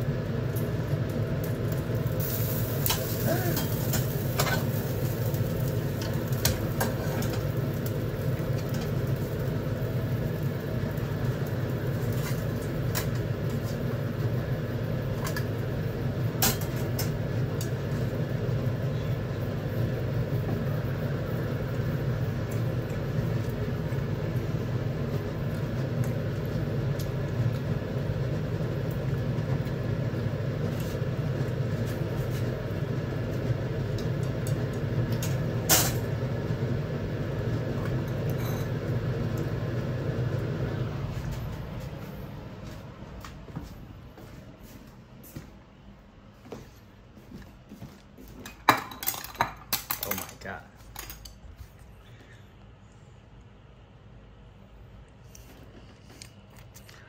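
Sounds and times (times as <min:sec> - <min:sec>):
stove mechanical hum: 0:00.0 - 0:57.0.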